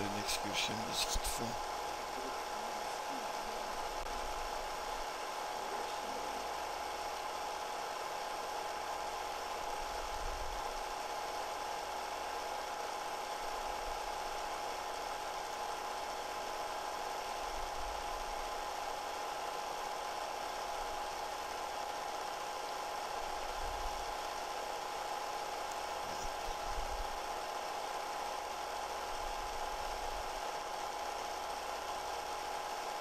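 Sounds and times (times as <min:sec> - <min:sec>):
constant high hum: 0:00.0 - 0:19.2, 0:19.8 - 0:33.0
film projector whirring: 0:00.0 - 0:33.0.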